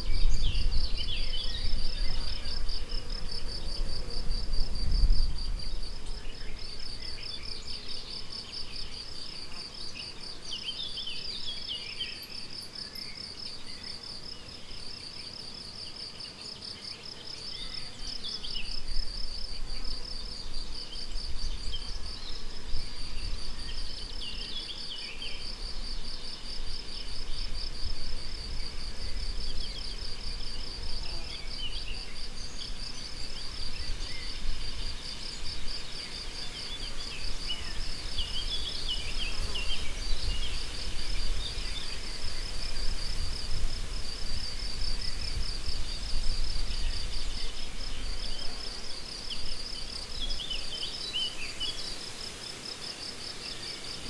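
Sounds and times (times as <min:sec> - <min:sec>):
songbirds calling faintly: 0:00.0 - 0:04.8, 0:05.4 - 0:54.0
crickets chirping: 0:00.0 - 0:54.0.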